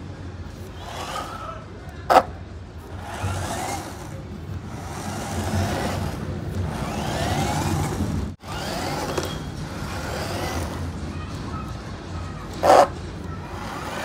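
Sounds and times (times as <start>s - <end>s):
toy car motors whining: 0.4s - 14.0s.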